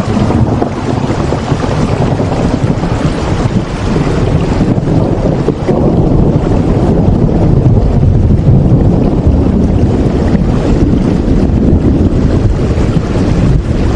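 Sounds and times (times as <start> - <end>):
steady rain: 0.0 - 13.9.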